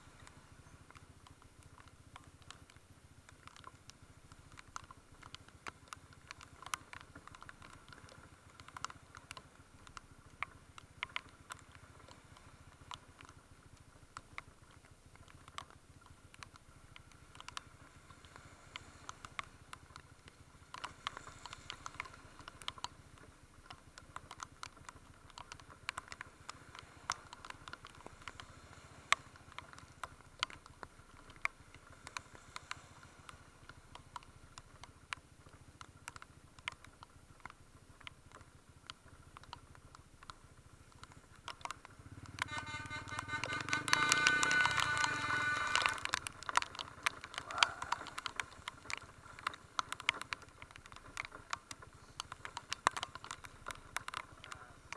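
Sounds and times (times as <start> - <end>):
raindrops ticking on camera: 0.0 - 54.9.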